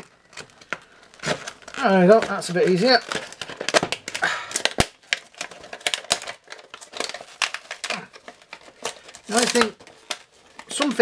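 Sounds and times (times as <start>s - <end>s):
plastic packaging snapping and crackling: 0.0s - 11.0s.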